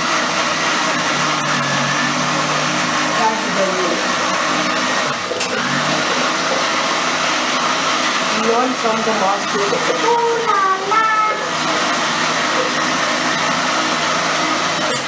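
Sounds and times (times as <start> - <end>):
kitchen appliance motor whooshing: 0.0 - 15.0.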